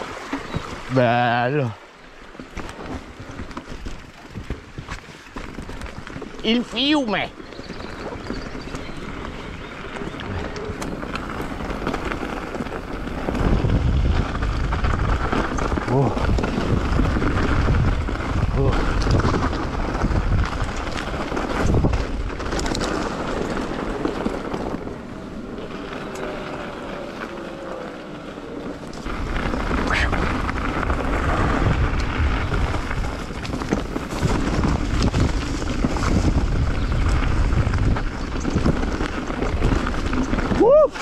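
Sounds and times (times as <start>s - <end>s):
bike rattling on rough trail: 0.0s - 41.0s
wind buffeting microphone: 2.7s - 28.2s, 28.8s - 41.0s
tyre rumble: 2.7s - 41.0s.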